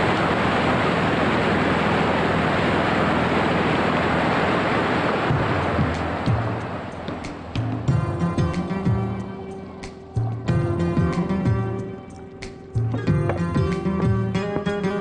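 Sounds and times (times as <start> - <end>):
churning boat wake water: 0.0 - 15.0.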